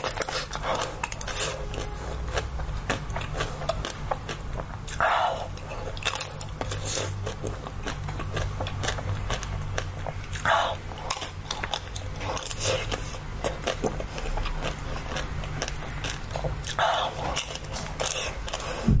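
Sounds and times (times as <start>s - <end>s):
wet chewing mouth sounds: 0.0s - 19.0s.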